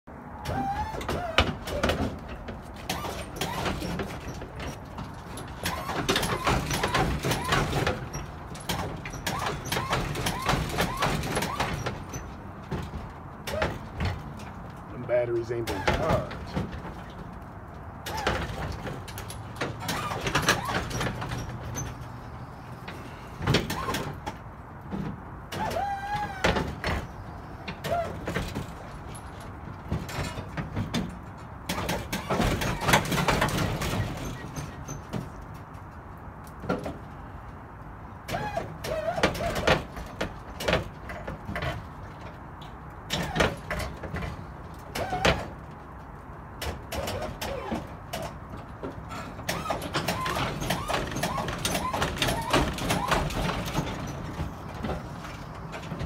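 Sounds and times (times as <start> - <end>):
suspension creaking and squeaking: 0.1 - 56.0.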